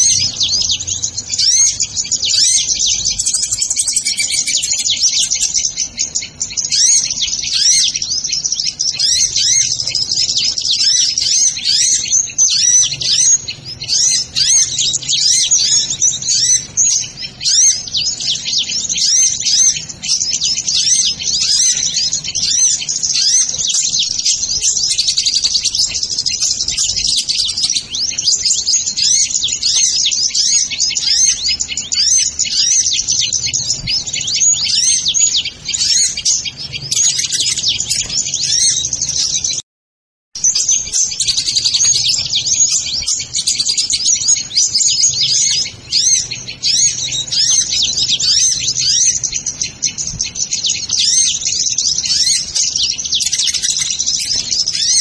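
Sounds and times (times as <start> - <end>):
sunbirds chirping and trilling: 0.0 - 39.6, 40.4 - 55.0.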